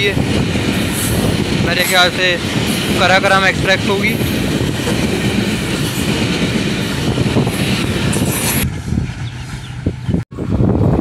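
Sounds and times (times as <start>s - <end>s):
train wheel and rail noise: 0.0s - 11.0s.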